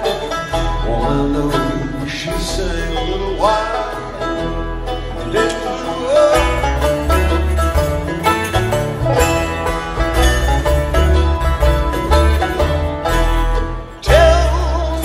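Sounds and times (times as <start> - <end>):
acoustic string band playing: 0.0 - 15.0
sliding bent lead notes: 0.0 - 15.0
upright bass: 0.0 - 15.0.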